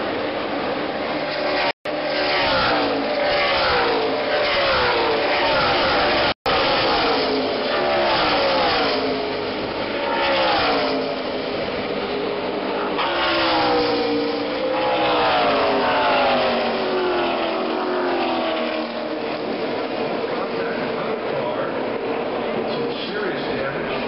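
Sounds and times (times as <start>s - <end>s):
continuous engine noise: 0.0s - 24.0s
race cars passing: 0.0s - 24.0s.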